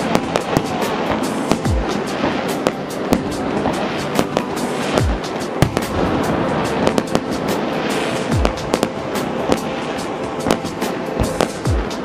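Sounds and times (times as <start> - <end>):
firework shells booming: 0.0 - 12.0
fireworks crackling: 0.0 - 12.0.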